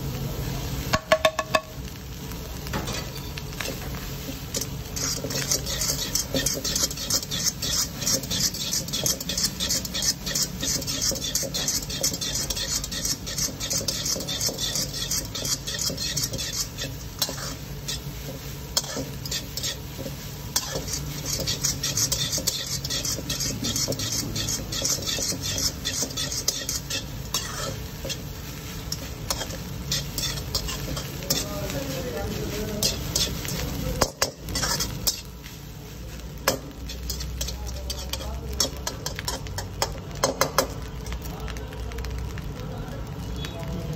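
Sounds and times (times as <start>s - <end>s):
light sizzle: 0.0s - 43.9s
metal spatula scraping wok: 2.7s - 40.8s.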